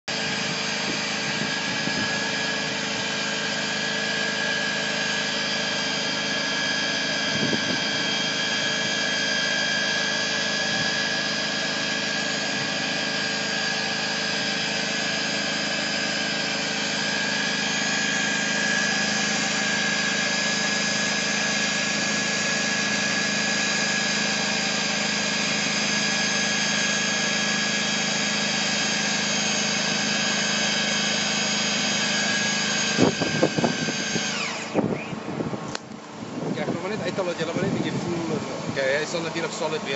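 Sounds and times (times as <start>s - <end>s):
electric drill boring into asphalt: 0.0s - 39.9s.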